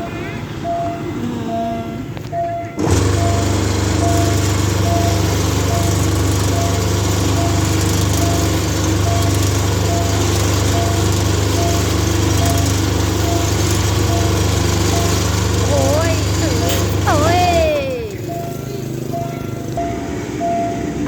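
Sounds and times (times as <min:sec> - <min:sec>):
diesel train engine running: 0:00.0 - 0:21.0
level crossing warning bell: 0:00.0 - 0:21.0.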